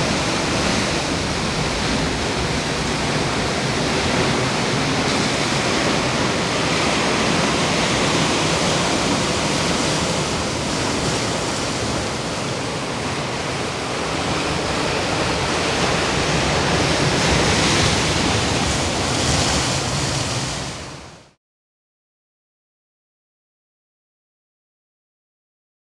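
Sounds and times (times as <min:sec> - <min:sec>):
ocean surf washing in: 0:00.0 - 0:21.4.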